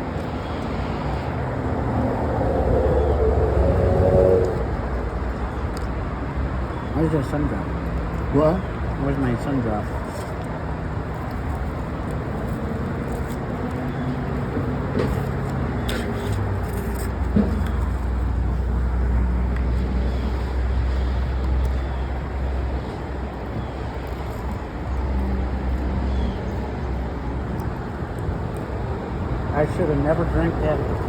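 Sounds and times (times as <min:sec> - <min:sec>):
traffic noise: 0:00.0 - 0:31.0.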